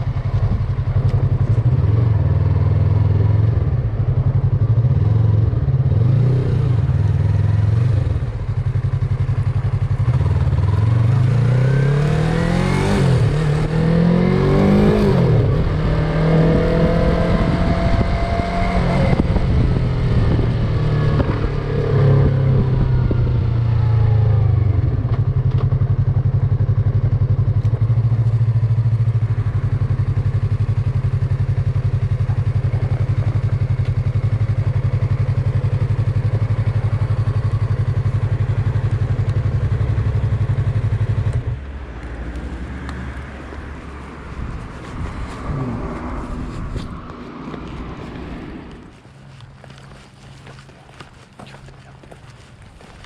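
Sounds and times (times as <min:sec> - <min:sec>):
motorcycle engine revving: 0:00.0 - 0:50.7.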